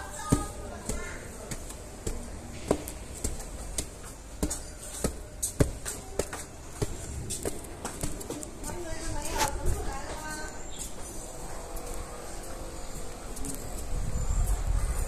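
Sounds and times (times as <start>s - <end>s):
footsteps on concrete steps: 0.0s - 15.0s.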